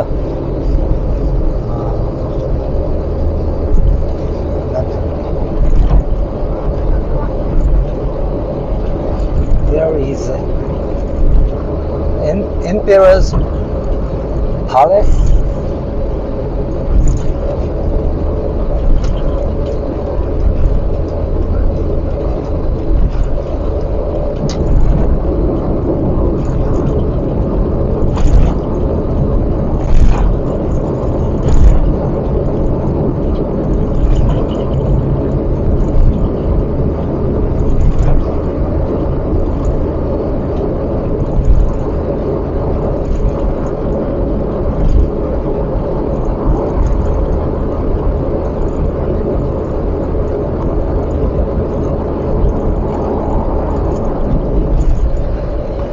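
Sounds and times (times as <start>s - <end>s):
road and engine rumble in car: 0.0s - 55.9s.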